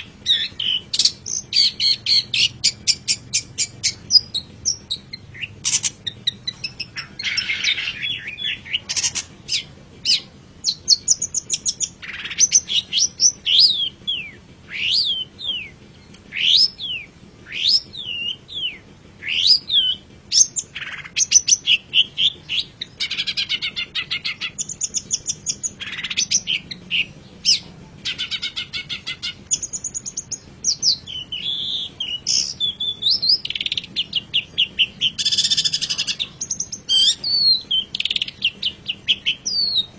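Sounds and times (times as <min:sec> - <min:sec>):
shrike singing varied song: 0:00.0 - 0:39.9.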